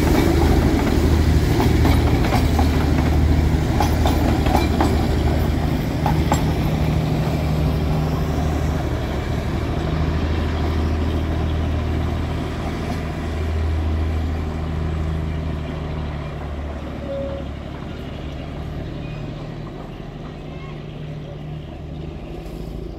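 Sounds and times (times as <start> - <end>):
diesel locomotive engine drone: 0.0 - 22.9.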